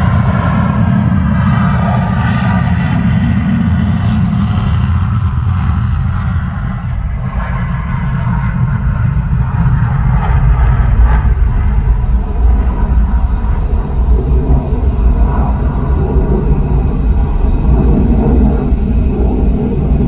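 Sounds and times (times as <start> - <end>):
fighter jet engines roaring: 0.0 - 20.0
heavy low rumble: 0.0 - 20.0.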